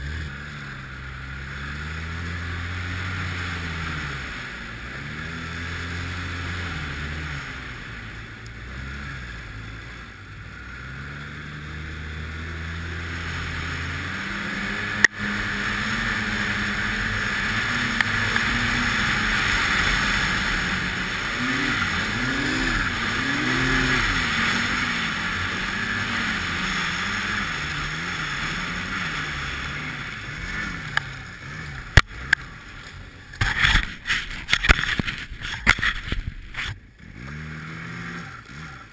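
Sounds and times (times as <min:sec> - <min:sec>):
snowmobile engine revving: 0:00.0 - 0:38.9
track rushing through snow: 0:00.0 - 0:38.9.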